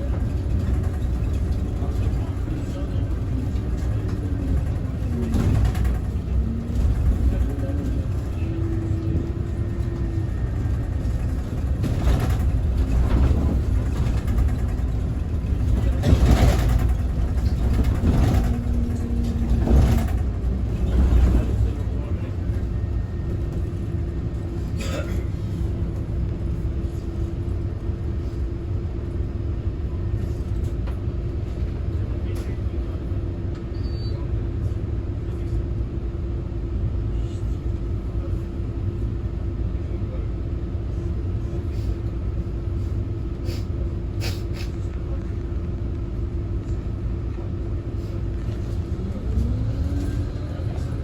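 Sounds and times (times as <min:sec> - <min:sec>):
bus engine and road rumble: 0:00.0 - 0:51.0.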